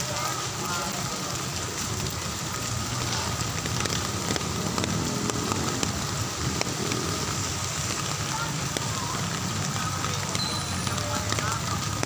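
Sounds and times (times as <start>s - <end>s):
heavy rain falling: 0.0s - 12.0s
raindrops ticking: 0.0s - 12.0s.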